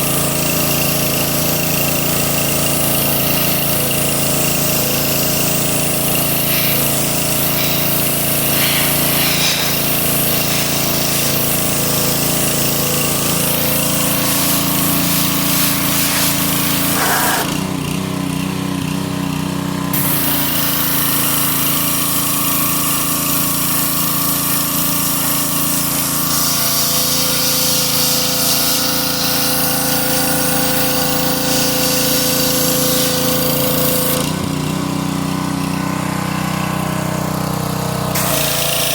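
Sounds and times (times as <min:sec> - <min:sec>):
motor-driven machine running: 0:00.0 - 0:17.8, 0:20.0 - 0:38.9.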